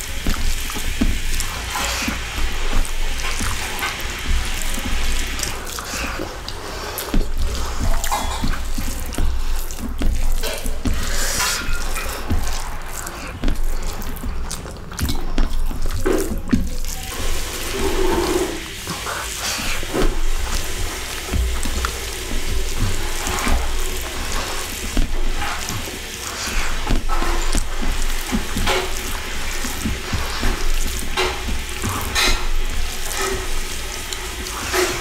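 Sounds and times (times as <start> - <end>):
hand mixing wet rice: 0.0 - 35.0
person chewing: 0.0 - 35.0.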